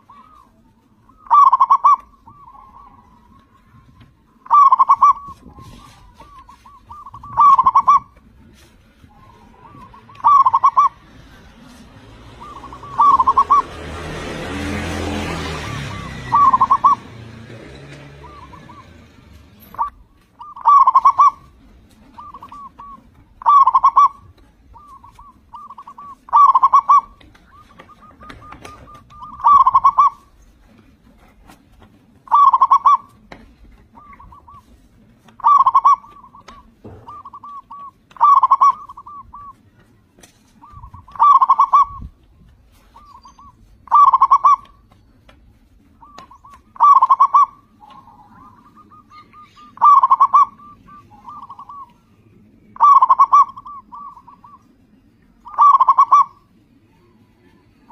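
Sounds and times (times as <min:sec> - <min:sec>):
dove cooing: 0:00.0 - 0:31.6, 0:32.2 - 0:39.6, 0:40.6 - 0:44.9, 0:45.9 - 0:54.8, 0:55.4 - 0:57.9.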